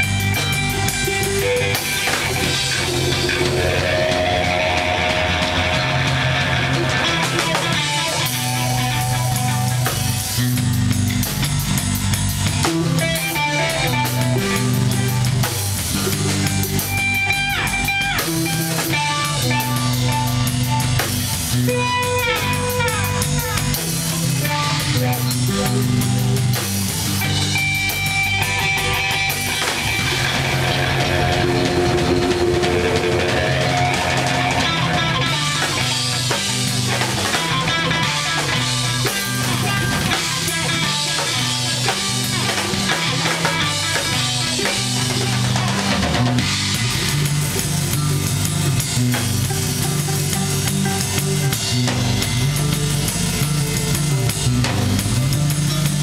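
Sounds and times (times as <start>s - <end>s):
rock band playing live: 0.0s - 56.0s
sliding guitar notes: 0.0s - 56.0s.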